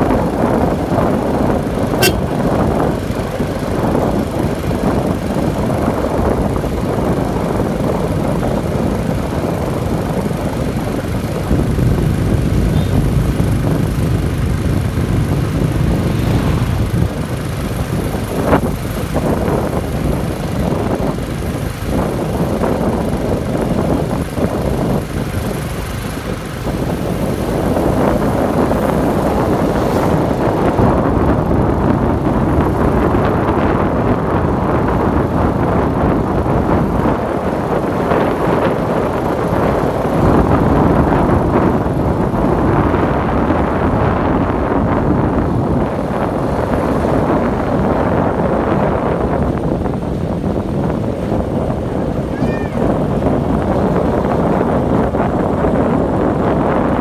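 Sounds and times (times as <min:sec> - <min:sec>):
bicycle ride rumble: 0:00.0 - 0:57.0
wind buffeting microphone: 0:00.0 - 0:57.0.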